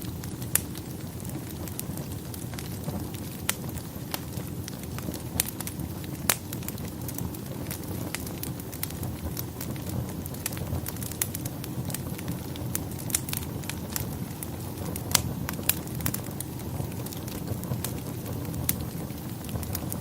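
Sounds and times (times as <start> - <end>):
low rumble of burning: 0.0 - 20.0
wood fire crackling and popping: 0.0 - 20.0.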